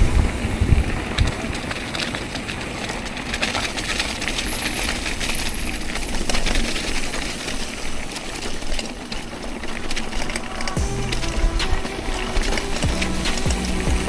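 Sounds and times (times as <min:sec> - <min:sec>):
bike rattling clicks: 0:00.0 - 0:14.0
bike tyres on dirt trail: 0:00.0 - 0:14.0
wind rumbling on microphone: 0:00.0 - 0:14.0.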